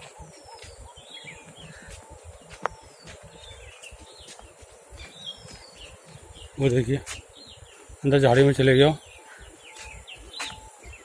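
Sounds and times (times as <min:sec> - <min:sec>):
small birds chirping and whistling: 0:00.0 - 0:11.0.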